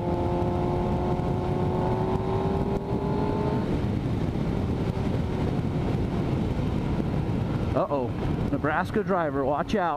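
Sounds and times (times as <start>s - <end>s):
motorcycle engine: 0.0s - 8.6s
wind rumble on microphone: 0.0s - 9.9s.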